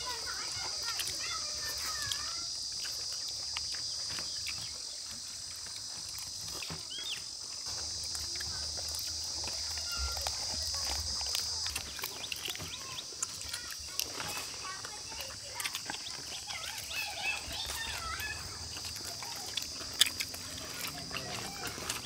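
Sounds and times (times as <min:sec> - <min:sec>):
high-pitched insect chirring: 0:00.0 - 0:22.0.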